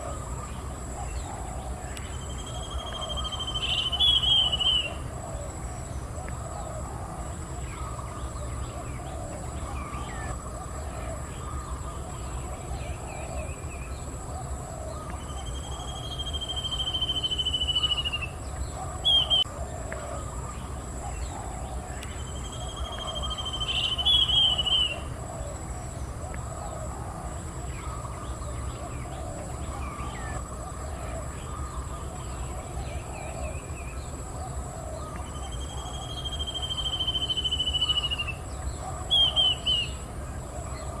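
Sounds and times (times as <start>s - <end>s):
cuckoo calling trills: 0.0s - 5.6s, 6.2s - 25.6s, 26.2s - 40.0s
steady high-pitched whine: 0.0s - 41.0s.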